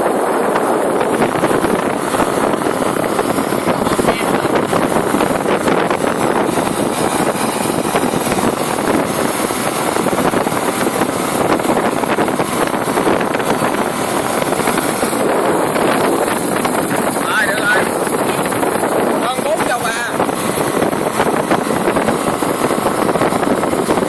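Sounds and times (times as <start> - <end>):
small engine running under load: 0.1 - 24.0.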